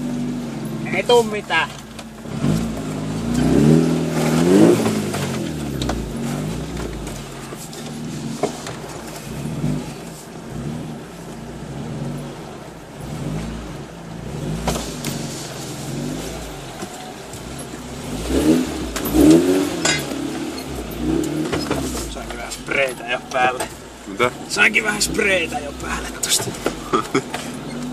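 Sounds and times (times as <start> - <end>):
car engine pulling in low gear: 0.0 - 27.9.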